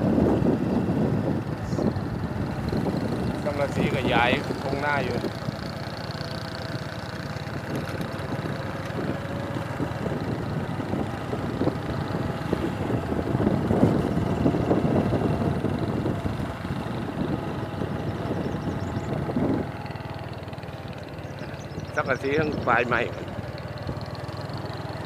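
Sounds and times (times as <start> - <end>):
road noise: 0.0 - 25.0
vehicle engine rumble: 0.0 - 25.0.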